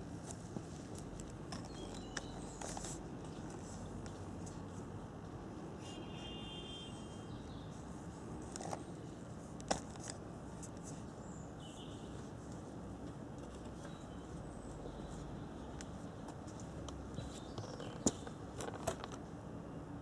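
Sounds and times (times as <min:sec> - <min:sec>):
low background noise: 0:00.0 - 0:20.0.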